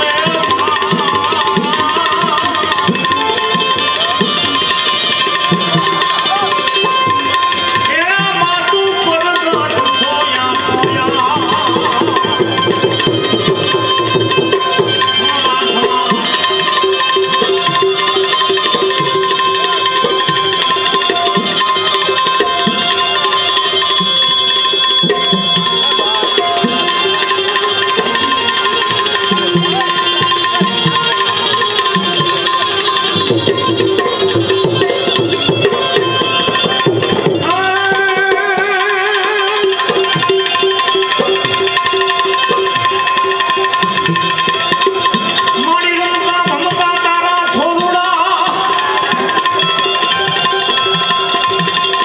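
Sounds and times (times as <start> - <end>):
sustained melody instrument: 0.0 - 52.0
tabla rhythm: 0.0 - 52.0.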